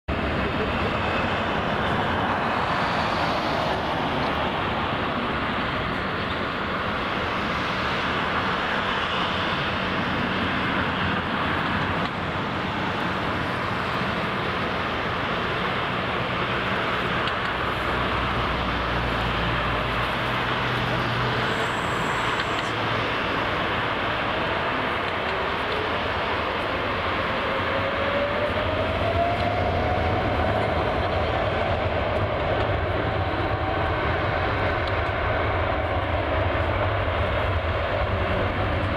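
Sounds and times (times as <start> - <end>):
deep jet rumble: 0.1 - 38.9
jet engine hiss: 0.2 - 19.2, 19.8 - 38.9.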